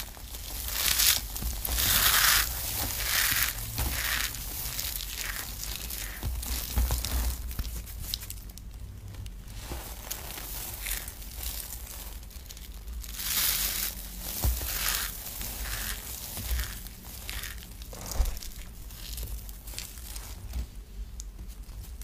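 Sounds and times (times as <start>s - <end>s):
soap shavings crunching: 0.0s - 22.0s.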